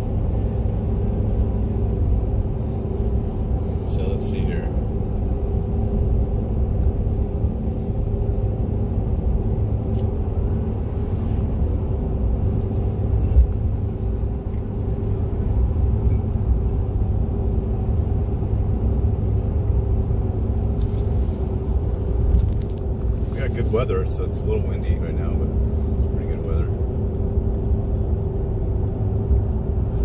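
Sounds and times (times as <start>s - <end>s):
car tyre and engine rumble: 0.0s - 30.0s.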